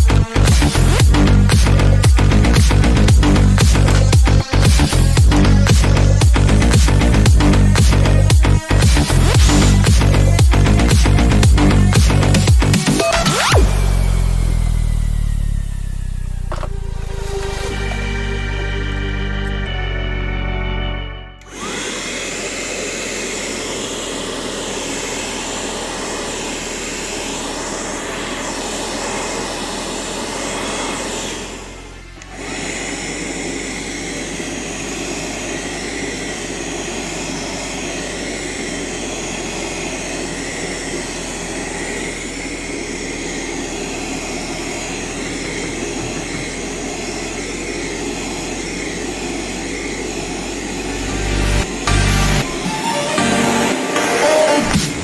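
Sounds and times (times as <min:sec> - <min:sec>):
handheld vacuum cleaner running: 0:00.0 - 0:20.3, 0:21.4 - 0:55.0.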